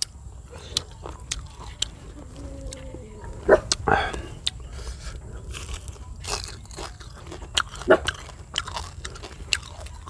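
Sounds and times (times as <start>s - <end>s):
crunchy chewing of fried fish: 0.0s - 10.0s.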